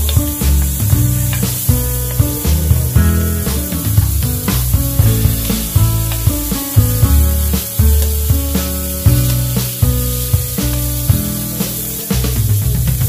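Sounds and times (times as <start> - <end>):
background music with steady beat: 0.0 - 13.0
steak sizzling in pan: 0.0 - 13.0.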